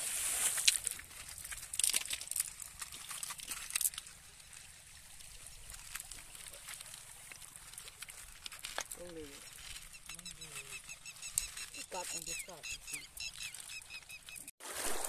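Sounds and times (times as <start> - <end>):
river water trickling over gravel: 0.0 - 15.0.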